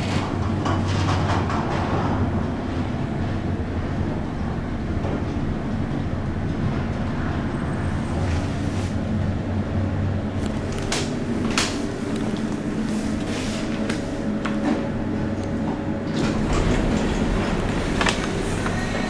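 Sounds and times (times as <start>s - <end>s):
lift running hum: 0.0s - 19.0s.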